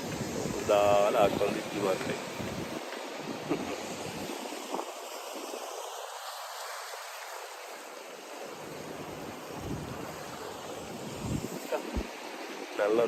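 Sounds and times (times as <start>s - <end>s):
sea waves: 0.0s - 13.0s
wind: 0.0s - 13.0s.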